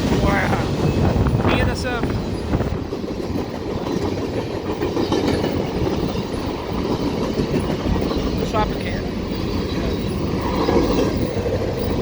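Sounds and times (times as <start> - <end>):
rail joints clicking: 0.0 - 12.0
train wheels rumbling on rails: 0.0 - 12.0.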